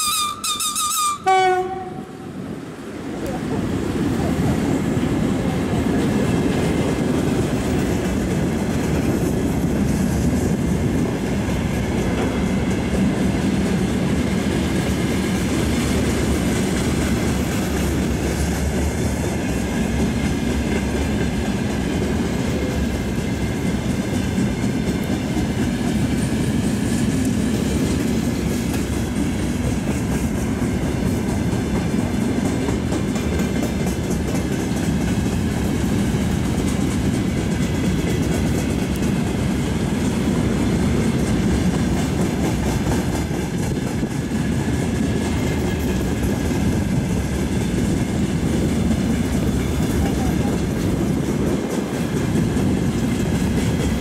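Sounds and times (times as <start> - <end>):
steel wheels rumbling on rail: 0.0 - 54.0
wheels clacking over rail joints: 3.2 - 54.0.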